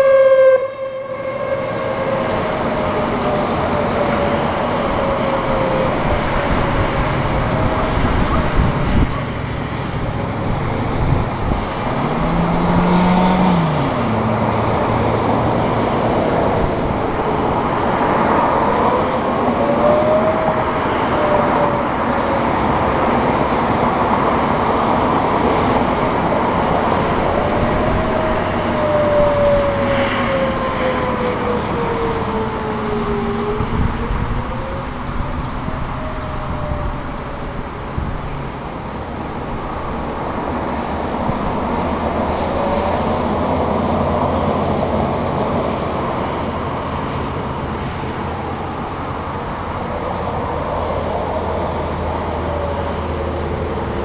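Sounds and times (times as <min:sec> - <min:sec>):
road traffic passing: 0:00.0 - 0:54.0
warning siren wail: 0:00.0 - 0:54.0.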